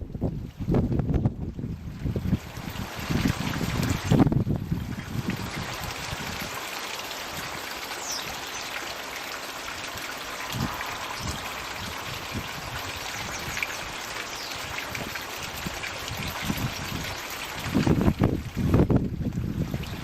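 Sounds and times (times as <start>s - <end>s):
water trickling into pond: 0.0s - 20.0s.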